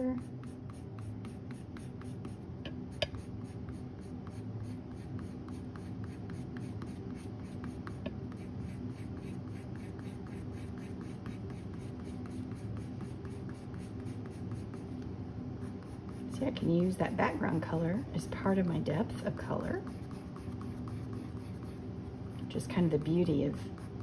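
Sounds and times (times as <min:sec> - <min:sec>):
colored pencil scratching on paper: 0:00.0 - 0:02.4, 0:03.1 - 0:15.0, 0:15.6 - 0:16.9, 0:19.1 - 0:24.0.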